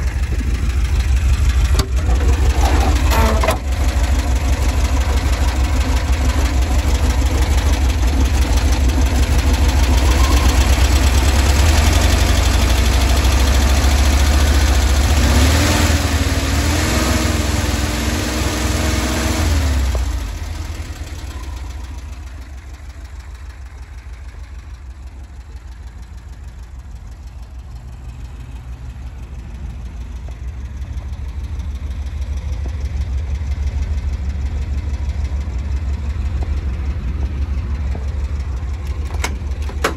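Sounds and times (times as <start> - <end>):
air-cooled engine running: 0.0 - 39.9.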